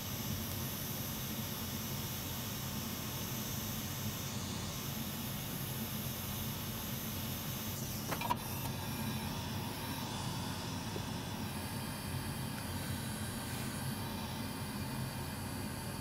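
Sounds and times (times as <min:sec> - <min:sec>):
small fan humming: 0:00.0 - 0:16.0.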